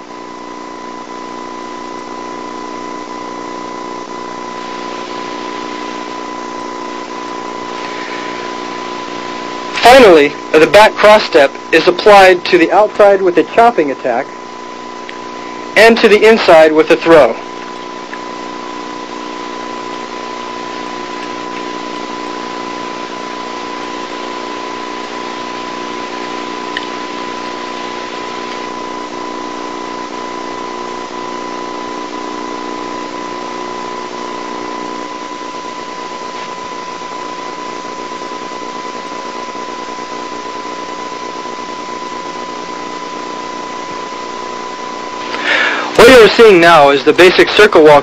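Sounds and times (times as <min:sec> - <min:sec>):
videotape hiss with whine and hum: 0:00.0 - 0:48.0.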